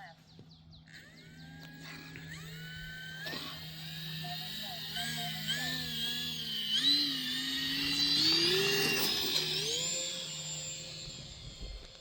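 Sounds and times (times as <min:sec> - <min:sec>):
electric motor and propeller whining: 0:00.5 - 0:12.0.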